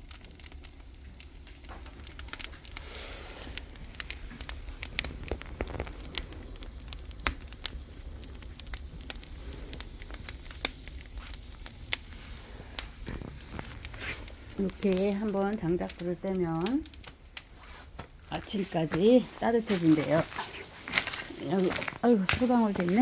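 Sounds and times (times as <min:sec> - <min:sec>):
firewood crackling and popping: 0:00.0 - 0:23.0.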